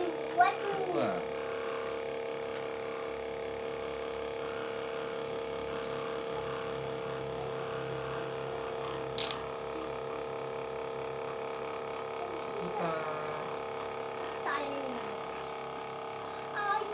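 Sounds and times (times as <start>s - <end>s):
cotton candy machine motor whine: 0.0s - 16.9s.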